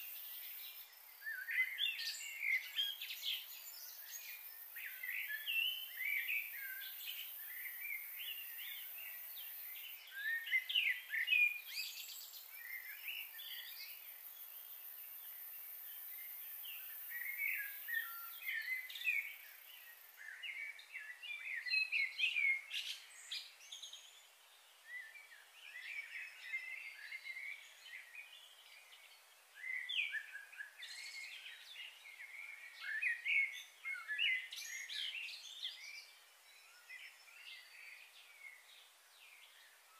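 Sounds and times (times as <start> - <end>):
faint high hiss: 0.0 - 39.9.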